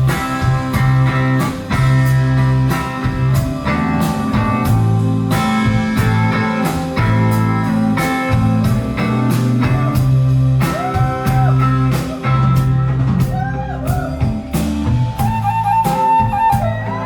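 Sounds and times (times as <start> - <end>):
guitar: 0.0 - 17.0
steady drum beat: 0.0 - 17.0
sustained bass notes: 0.0 - 17.0.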